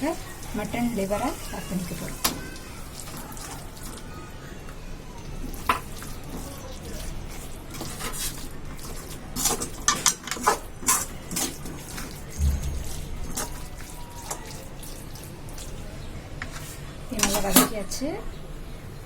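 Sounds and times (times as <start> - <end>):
frying sizzle: 0.0 - 4.2, 5.5 - 18.1.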